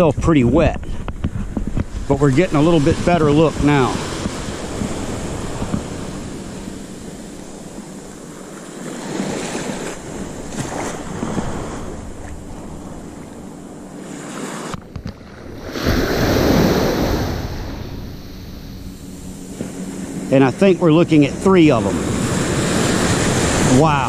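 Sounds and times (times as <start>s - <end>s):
wind on microphone: 0.0s - 24.0s
small ocean waves breaking: 1.3s - 24.0s.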